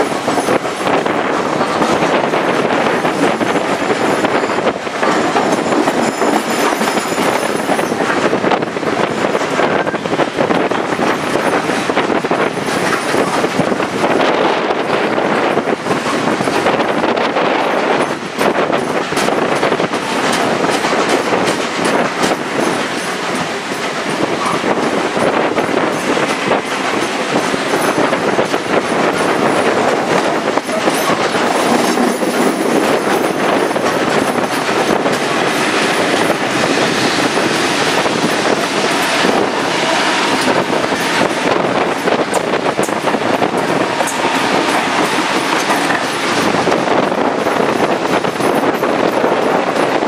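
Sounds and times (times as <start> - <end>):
passing electric train: 0.0 - 50.0
rushing rail noise: 0.0 - 50.0.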